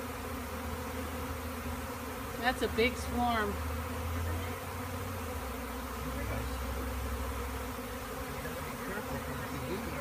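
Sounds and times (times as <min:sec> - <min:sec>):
swarm of bees buzzing: 0:00.0 - 0:10.0.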